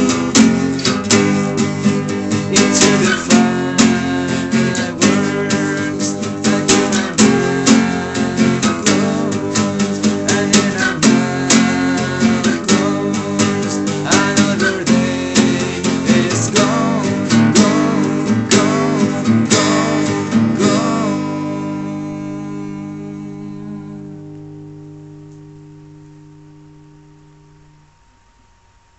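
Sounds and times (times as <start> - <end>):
acoustic guitar strumming: 0.0 - 28.9.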